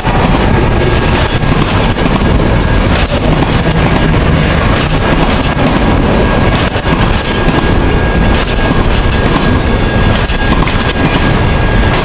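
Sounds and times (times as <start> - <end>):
sharp clacks of rail joints: 0.0 - 12.0
train wheels rumbling on rails: 0.0 - 12.0.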